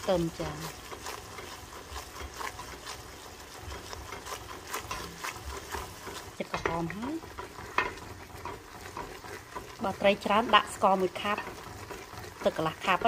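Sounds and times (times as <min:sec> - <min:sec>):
garlic frying and sizzling: 0:00.0 - 0:13.0
wooden spatula scraping a pot: 0:00.0 - 0:13.0.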